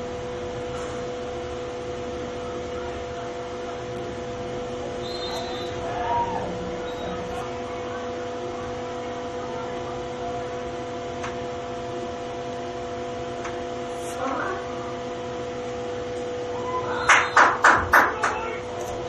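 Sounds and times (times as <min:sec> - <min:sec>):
noisy background: 0:00.0 - 0:19.0
steady hum of even tones: 0:00.0 - 0:19.0.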